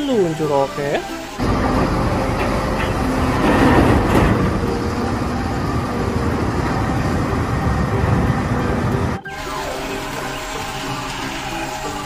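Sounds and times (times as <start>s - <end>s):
toy truck motor rumbling: 1.0s - 12.0s.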